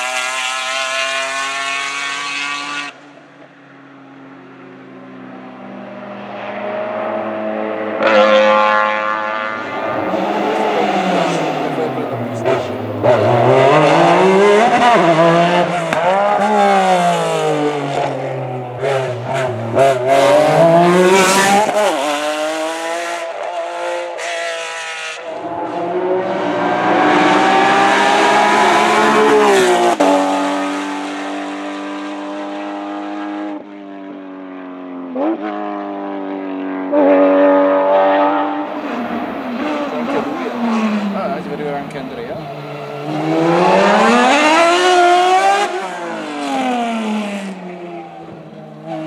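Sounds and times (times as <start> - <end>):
race car engine accelerating: 5.5 - 33.6, 34.7 - 49.0.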